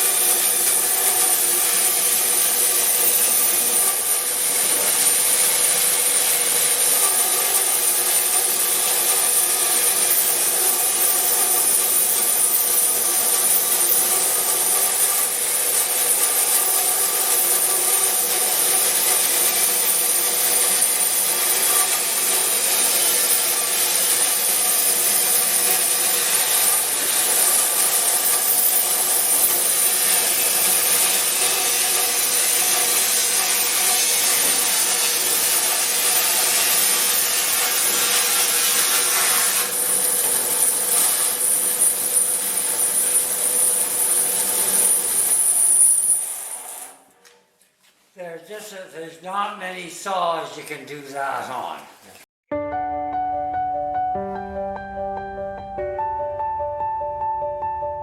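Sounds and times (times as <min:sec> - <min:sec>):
band saw cutting wood: 0:00.0 - 0:47.1.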